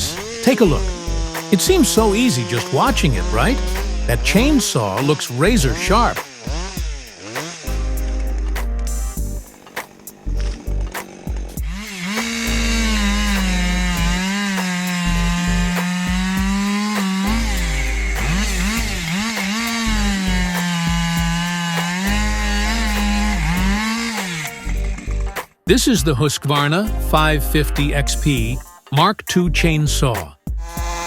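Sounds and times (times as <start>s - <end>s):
music with pulsing bass: 0.0s - 4.7s, 5.4s - 7.0s, 7.7s - 9.5s, 10.3s - 28.8s, 29.4s - 31.0s
chainsaw cutting wood: 0.0s - 25.6s, 30.5s - 31.0s.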